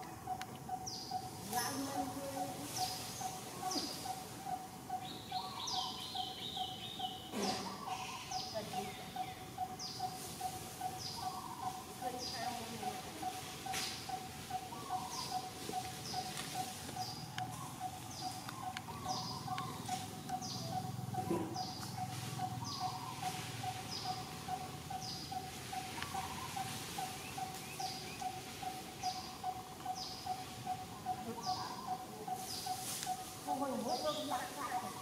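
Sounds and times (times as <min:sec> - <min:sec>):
bird repeating low note: 0:00.0 - 0:35.0
high falling bird chirp: 0:00.1 - 0:35.0.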